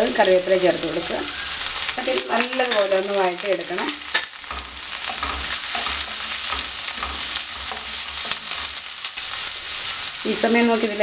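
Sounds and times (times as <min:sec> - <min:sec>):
vegetables sizzling in hot oil: 0:00.0 - 0:11.0
spatula stirring and scraping wok: 0:00.7 - 0:11.0.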